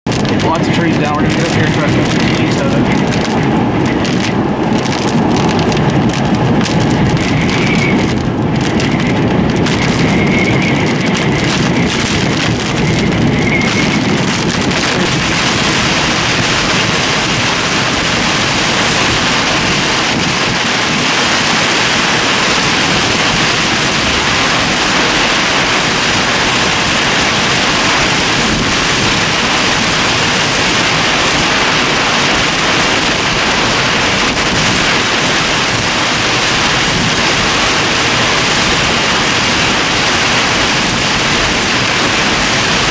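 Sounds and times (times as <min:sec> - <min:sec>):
torrential rain: 0:00.0 - 0:42.9
low rumble: 0:00.1 - 0:42.9
raindrop hits: 0:00.1 - 0:42.9.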